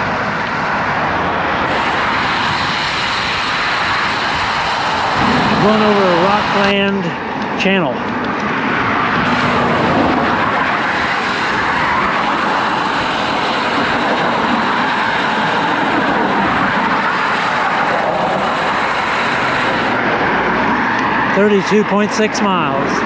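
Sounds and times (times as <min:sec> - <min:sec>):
highway traffic rushing: 0:00.0 - 0:23.0.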